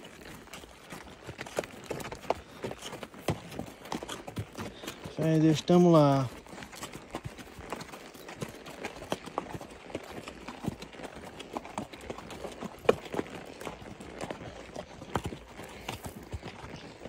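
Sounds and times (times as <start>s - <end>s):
horse hooves on dirt road: 0.0s - 17.0s.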